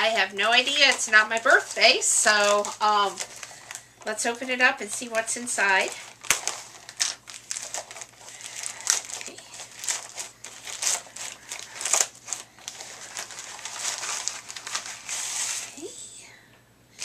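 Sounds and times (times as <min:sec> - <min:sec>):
plastic packaging crinkling and tearing: 0:00.0 - 0:15.9.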